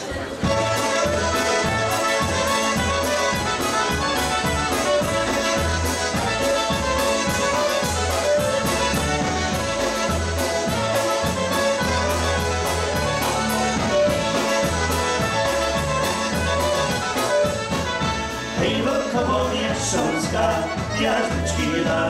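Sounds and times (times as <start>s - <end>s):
accordion: 0.0s - 22.0s
drums keeping steady beat: 0.0s - 22.0s
clarinet: 0.1s - 21.6s
trumpet: 0.4s - 21.8s
electric bass: 0.4s - 22.0s.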